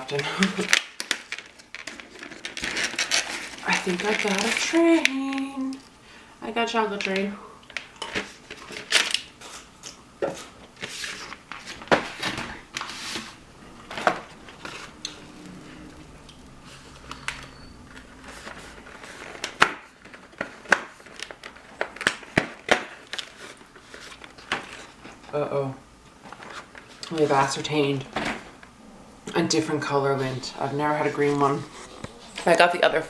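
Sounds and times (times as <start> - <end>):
packaging crinkling: 0.0 - 6.0, 6.9 - 25.4, 26.1 - 28.7.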